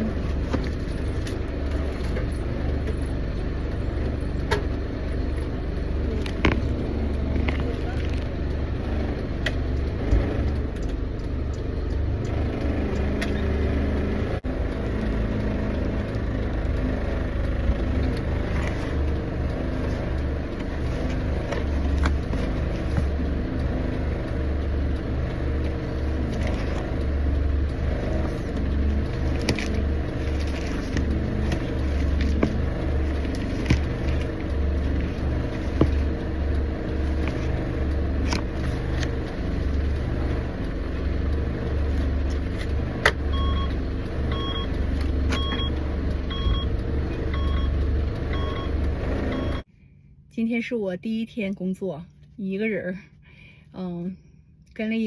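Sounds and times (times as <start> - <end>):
engine and road rumble: 0.0 - 55.0.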